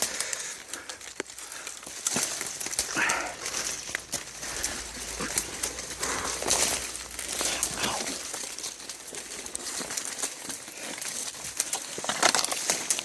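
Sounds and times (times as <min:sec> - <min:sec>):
footsteps through dry undergrowth: 0:00.0 - 0:13.0
twigs snapping: 0:00.0 - 0:13.0.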